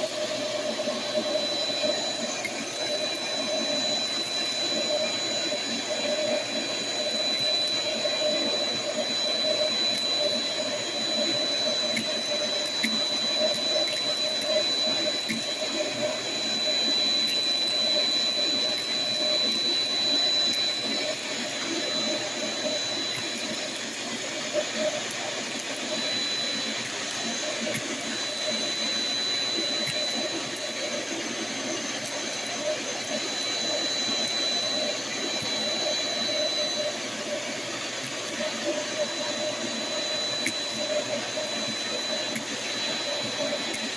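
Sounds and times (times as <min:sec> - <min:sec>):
shop vac motor whine: 0:00.0 - 0:43.9.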